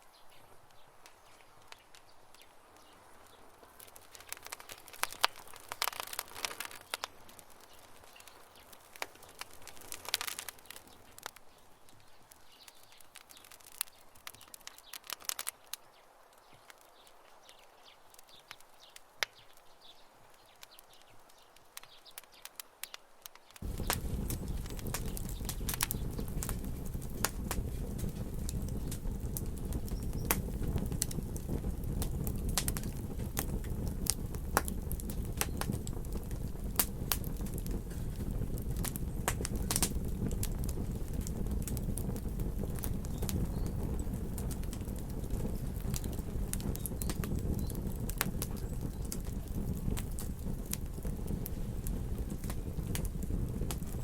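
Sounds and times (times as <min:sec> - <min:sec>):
campfire crackling and popping: 0:00.3 - 0:54.0
low rumble of flame: 0:00.6 - 0:21.4, 0:23.6 - 0:54.0.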